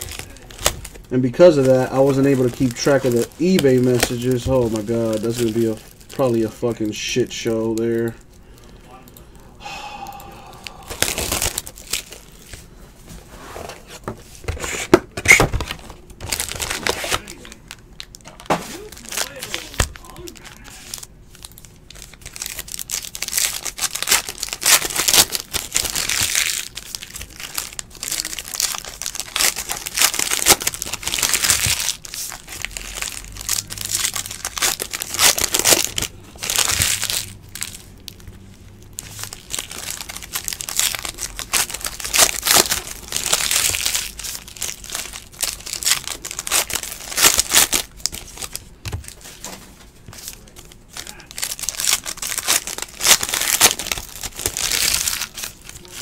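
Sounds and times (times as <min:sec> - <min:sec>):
foil wrappers crinkling and tearing: 0:00.0 - 0:08.8, 0:10.5 - 0:12.7, 0:14.6 - 0:56.0.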